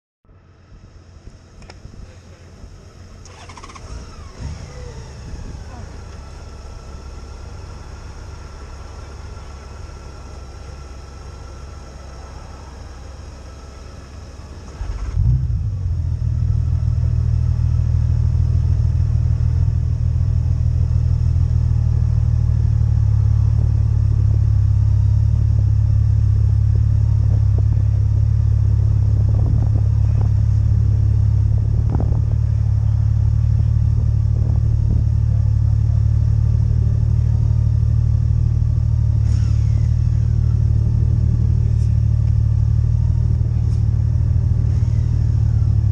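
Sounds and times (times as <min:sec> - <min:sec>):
motorcycle engines idling: 0:00.3 - 0:45.9
motorcycle engine starting: 0:01.3 - 0:45.9.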